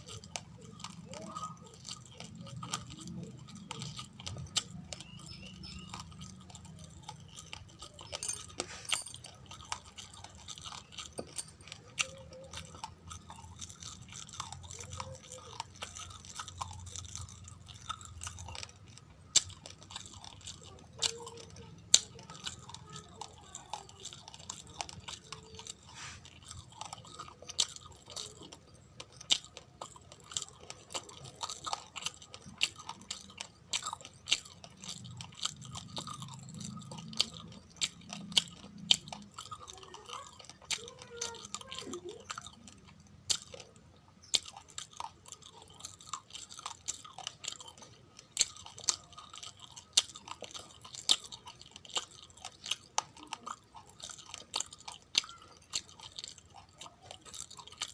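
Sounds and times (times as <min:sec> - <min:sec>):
person chewing crunchy rice grains: 0:00.0 - 0:57.9.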